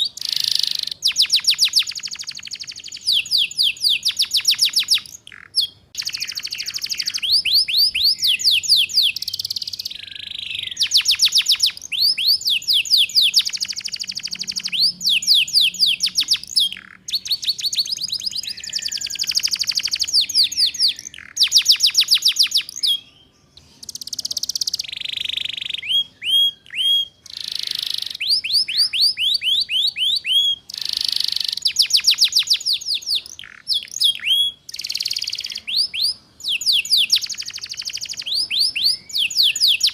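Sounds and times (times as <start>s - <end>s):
canary singing trilled phrases: 0.0s - 39.9s.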